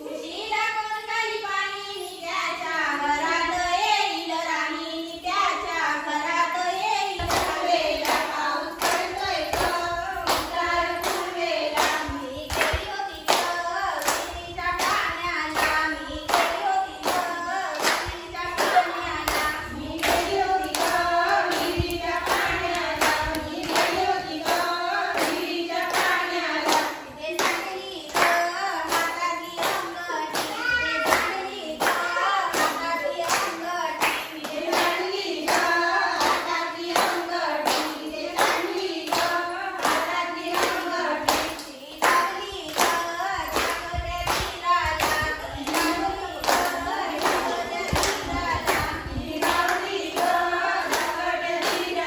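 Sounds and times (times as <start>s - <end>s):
women and girls singing: 0.0s - 52.0s
hand claps keeping time: 7.2s - 52.0s.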